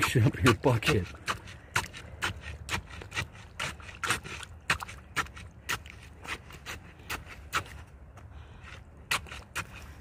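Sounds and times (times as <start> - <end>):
stick tapping and scraping wet concrete: 0.0 - 8.0, 8.6 - 10.0.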